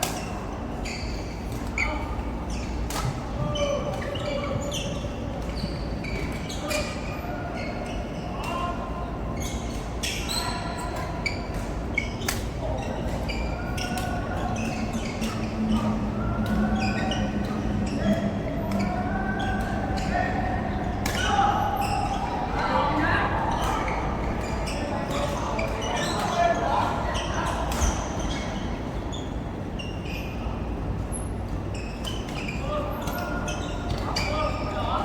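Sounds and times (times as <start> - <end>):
shoe squeaks: 0.1 - 8.7, 9.4 - 22.7, 23.5 - 35.0.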